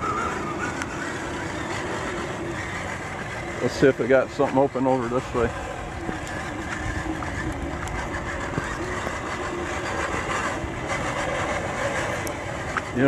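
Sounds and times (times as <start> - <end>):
steady rushing noise: 0.0 - 13.0
toy car electric motor and gears: 0.0 - 13.0.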